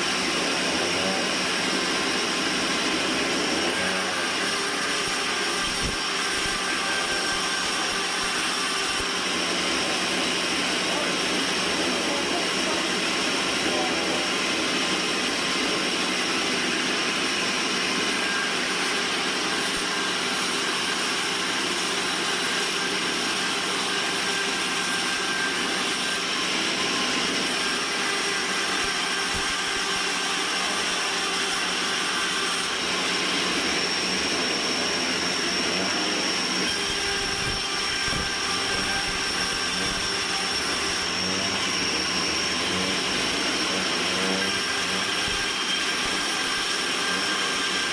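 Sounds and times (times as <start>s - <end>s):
band saw running with high whine: 0.0s - 47.9s.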